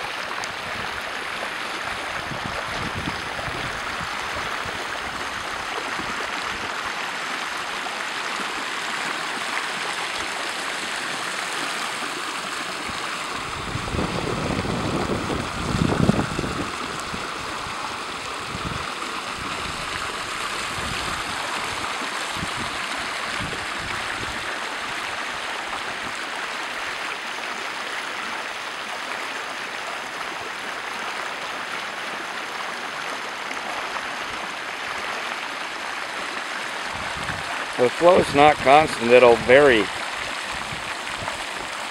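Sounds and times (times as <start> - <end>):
water rushing across street: 0.0 - 41.9.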